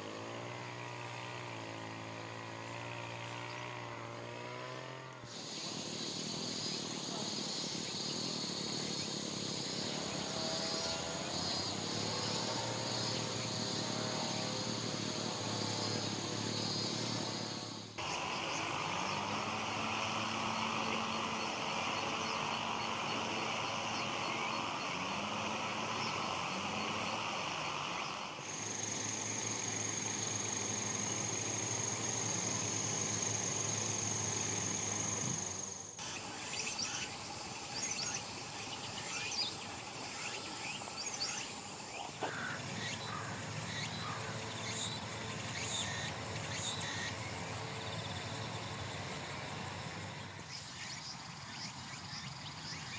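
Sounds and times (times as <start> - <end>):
insects droning: 0.0 - 52.9
insect high-pitched trill: 5.3 - 49.4
small birds chirping: 5.3 - 52.9.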